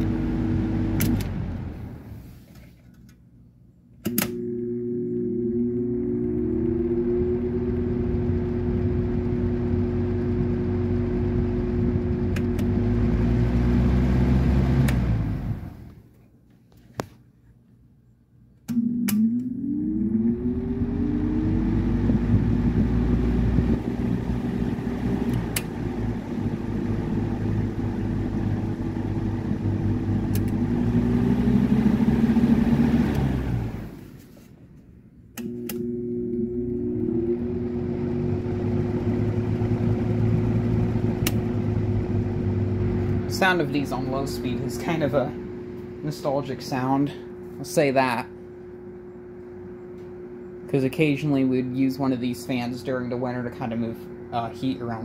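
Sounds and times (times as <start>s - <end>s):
window fan motor humming: 0.0s - 2.4s, 4.3s - 16.0s, 18.8s - 34.3s, 35.4s - 55.0s.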